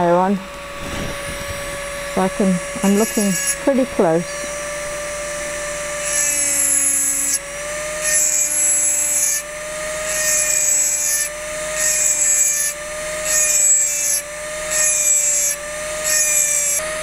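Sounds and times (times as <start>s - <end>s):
rotary drill motor whine: 0.0s - 17.0s.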